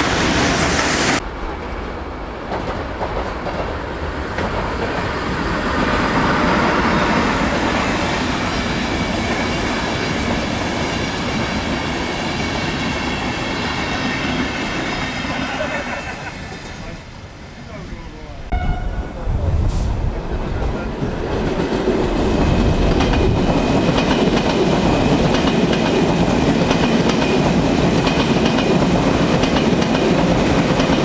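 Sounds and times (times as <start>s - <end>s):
freight train rolling past: 0.0s - 31.0s
passenger train wheels on rails: 0.0s - 31.0s.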